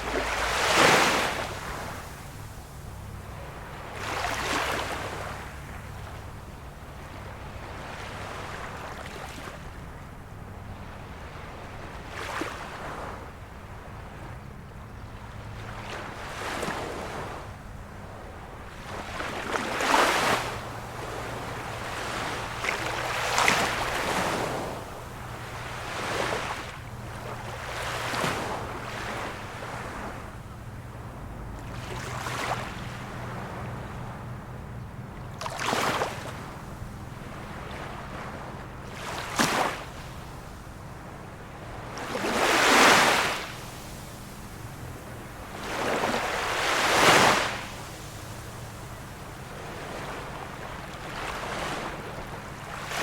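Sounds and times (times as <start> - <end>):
small waves washing onto shore: 0.0 - 53.0.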